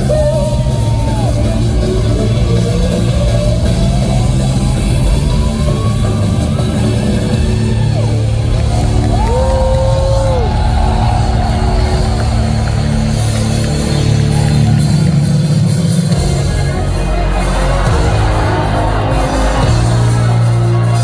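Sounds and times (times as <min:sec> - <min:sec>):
drums: 0:00.0 - 0:21.0
live rock band: 0:00.0 - 0:21.0.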